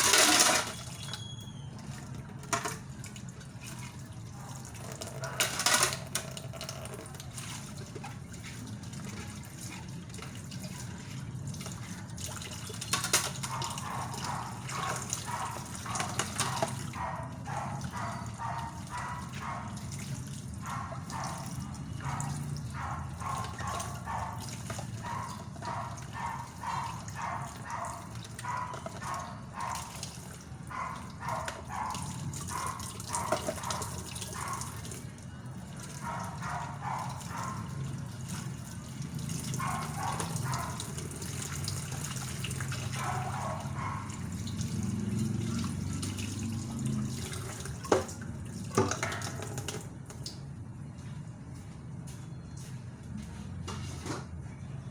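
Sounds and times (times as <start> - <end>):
splash or clatter: 0.0 - 1.2, 2.4 - 4.0, 4.7 - 17.1, 17.8 - 34.9, 38.2 - 50.4
tap water running into sink: 0.0 - 50.4.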